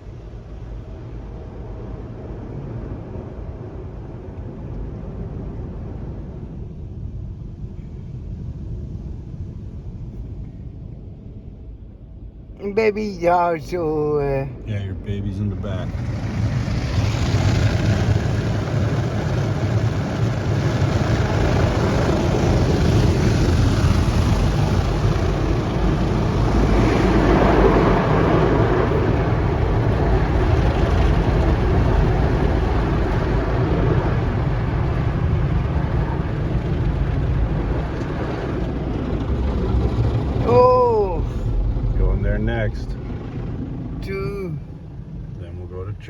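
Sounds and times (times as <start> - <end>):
low rumble: 0.0 - 46.0.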